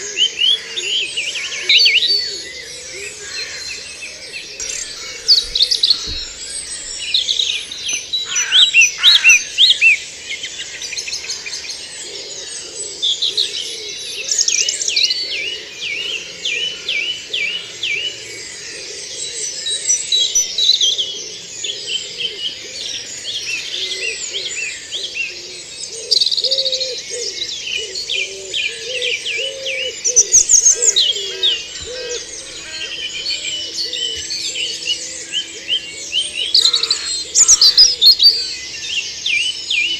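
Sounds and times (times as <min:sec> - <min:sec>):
low repeated bird call: 0:00.0 - 0:39.9
songbirds singing trills: 0:00.0 - 0:39.9.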